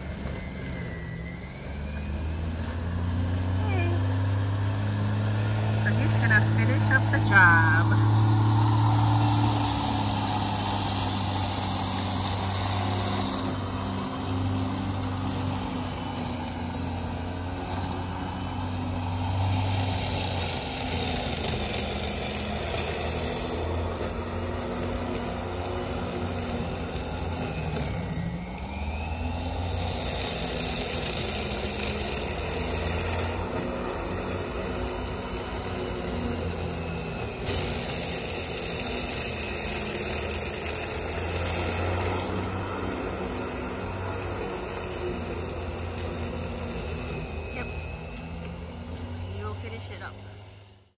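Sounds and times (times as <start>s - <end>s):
electric lawnmower running: 0.0s - 50.9s.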